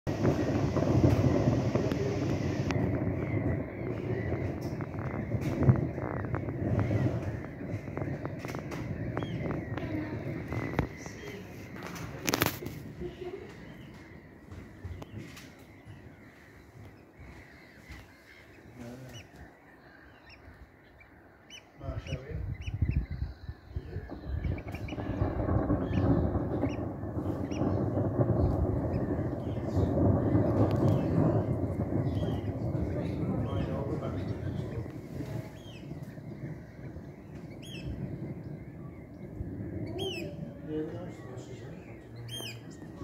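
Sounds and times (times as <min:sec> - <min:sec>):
wind buffeting microphone: 0:00.0 - 0:43.0
loud low rumble: 0:00.1 - 0:16.3, 0:21.8 - 0:43.0
birds chirping calls: 0:00.1 - 0:43.0.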